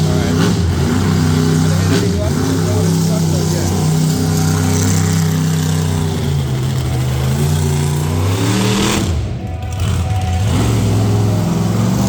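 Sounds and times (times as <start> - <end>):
truck engine running at high revs: 0.0 - 12.0.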